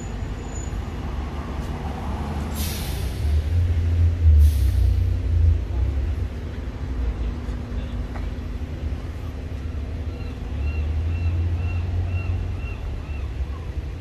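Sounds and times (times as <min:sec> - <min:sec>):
heavy vehicle engine running: 0:00.0 - 0:14.0
low rumble of street traffic: 0:00.0 - 0:14.0.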